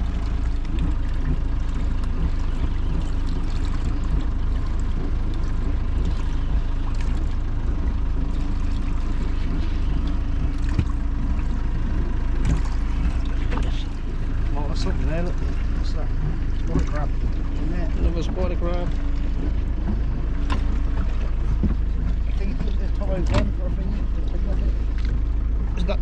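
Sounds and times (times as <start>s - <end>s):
boat engine rumble: 0.0s - 26.0s
water sloshing against hull: 0.0s - 26.0s.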